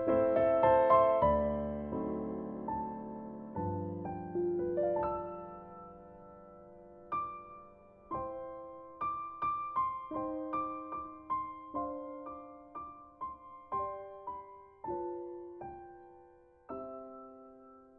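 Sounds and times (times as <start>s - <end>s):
gentle piano melody: 0.0s - 17.9s.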